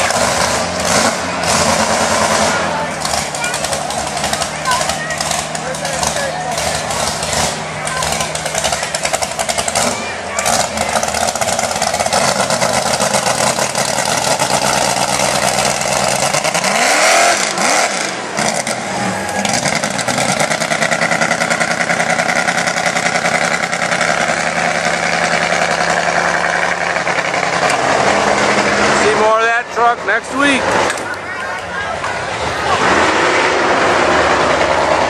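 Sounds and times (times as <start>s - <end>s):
truck engines revving loudly: 0.0s - 35.0s.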